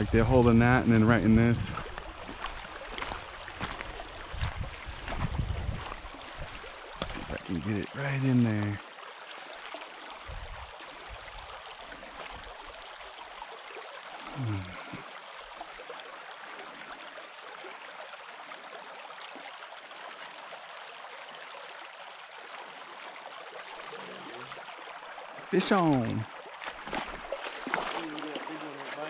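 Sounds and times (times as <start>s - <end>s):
creek rushing over gravel: 0.0s - 29.0s.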